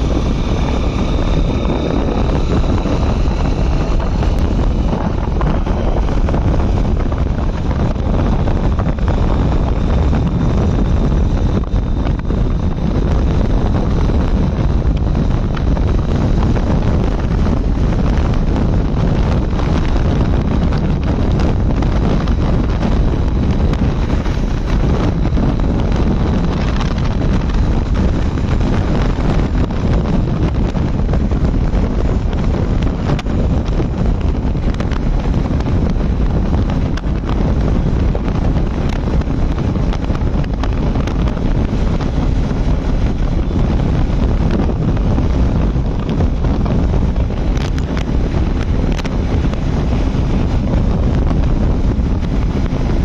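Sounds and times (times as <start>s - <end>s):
motorcycle engine accelerating: 0.0s - 53.0s
wind buffeting microphone: 0.0s - 53.0s.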